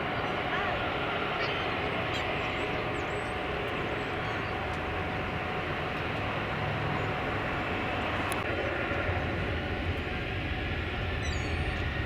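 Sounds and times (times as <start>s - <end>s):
jet engines roaring: 0.0s - 12.0s
low hum: 0.0s - 12.0s.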